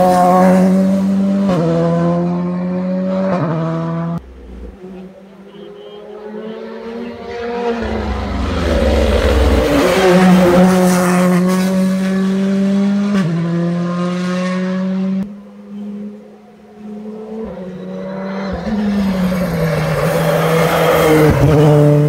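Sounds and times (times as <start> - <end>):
rally car engine accelerating: 0.0 - 16.2, 16.8 - 22.0.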